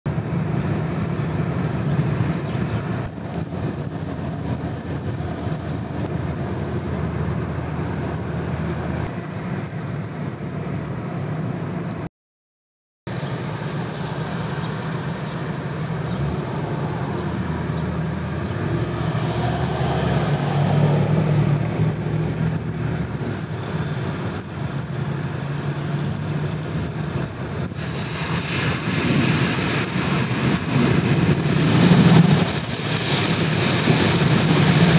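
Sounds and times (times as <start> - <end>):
car driving on road: 0.1 - 12.1, 13.1 - 34.9.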